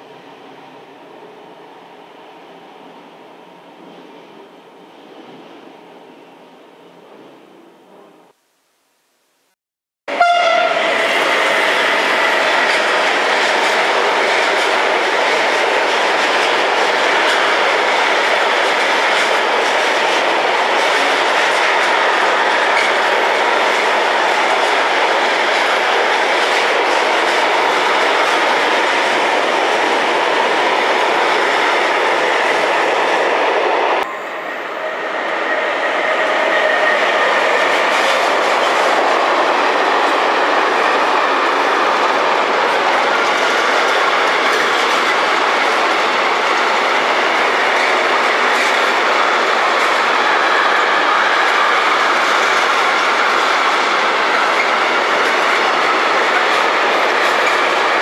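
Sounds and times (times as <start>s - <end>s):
freight train wheels on rail: 10.1s - 58.0s.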